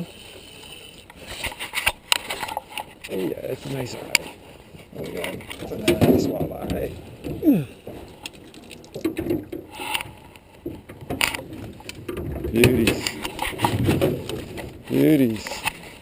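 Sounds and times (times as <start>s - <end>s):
fishing tackle clicks and knocks: 0.1s - 3.2s, 4.0s - 15.9s.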